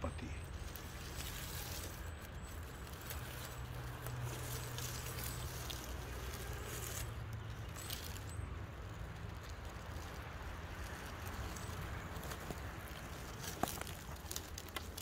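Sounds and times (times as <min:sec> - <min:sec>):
dry leaves and twigs crackling: 0:00.1 - 0:15.0
electric drivetrain whirring: 0:00.4 - 0:15.0.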